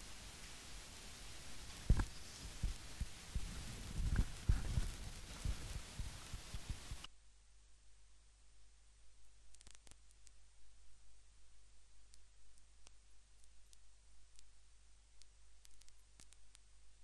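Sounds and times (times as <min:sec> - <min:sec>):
recording hiss: 0:00.0 - 0:17.0.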